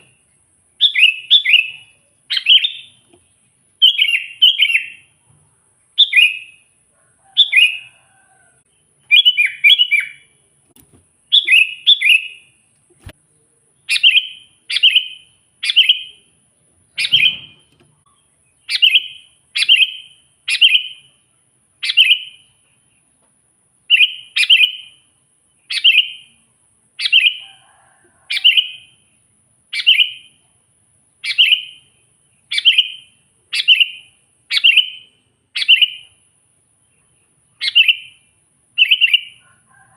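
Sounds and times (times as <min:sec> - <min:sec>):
bird chirping: 0:00.0 - 0:05.2, 0:05.8 - 0:08.0, 0:08.6 - 0:23.2, 0:23.8 - 0:27.6, 0:28.3 - 0:29.1, 0:29.7 - 0:30.5, 0:31.1 - 0:39.5.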